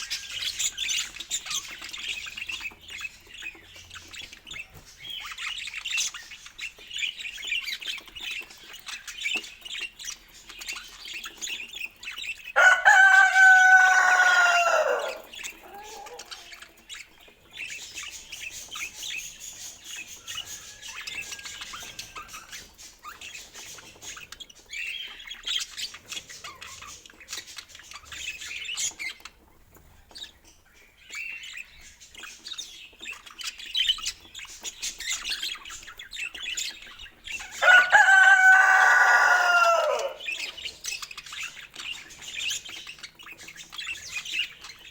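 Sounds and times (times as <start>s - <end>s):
budgerigars warbling and chirping: 0.0s - 44.9s.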